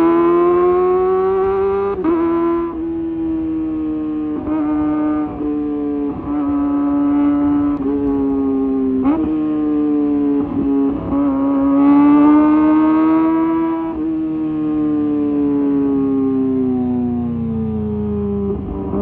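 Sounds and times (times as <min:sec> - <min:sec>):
motorcycle engine high revs: 0:00.0 - 0:19.0.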